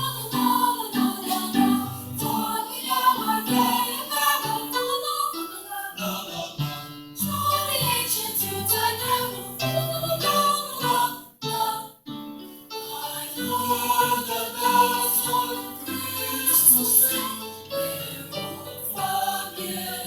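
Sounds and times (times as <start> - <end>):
school chorus singing: 0.0 - 20.0.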